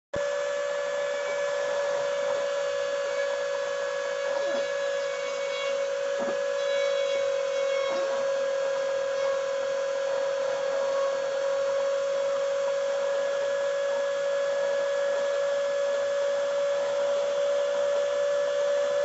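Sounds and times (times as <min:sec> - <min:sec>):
router spindle whining: 0:00.2 - 0:19.0.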